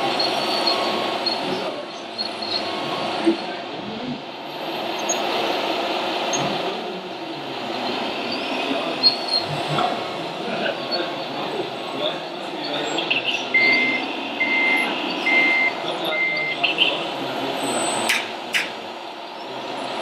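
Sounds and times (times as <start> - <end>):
model excavator mechanical whine: 0.0 - 20.0.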